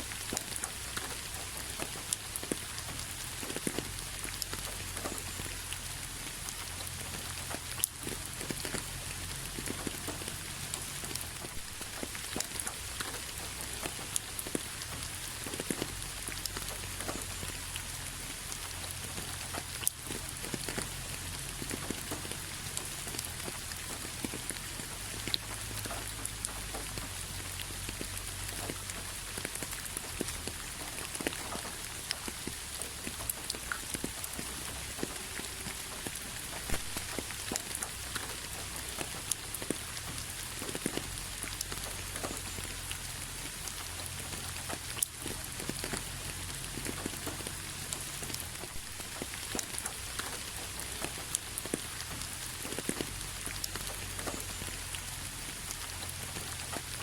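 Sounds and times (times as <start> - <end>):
rain falling: 0.0 - 57.0
raindrops clicking on a surface: 0.0 - 57.0.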